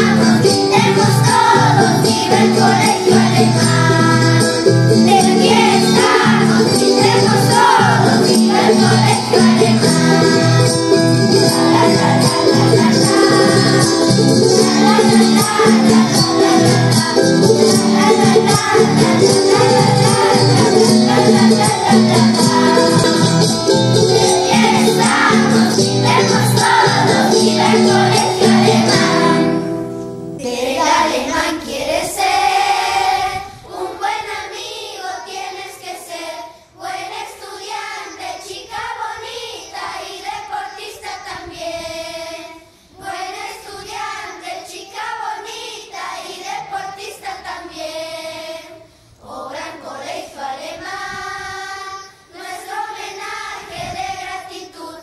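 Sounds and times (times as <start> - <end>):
band with children singing: 0.0 - 55.0
children's choir singing: 0.0 - 55.0.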